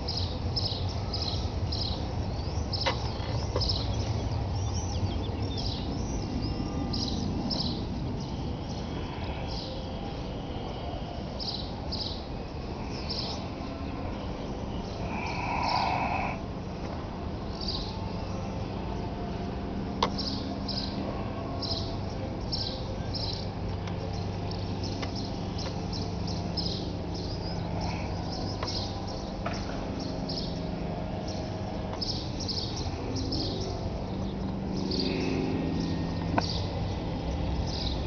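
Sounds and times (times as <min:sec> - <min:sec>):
small birds chirping: 0:00.0 - 0:16.5, 0:17.5 - 0:38.0
steady low hum: 0:00.0 - 0:38.0.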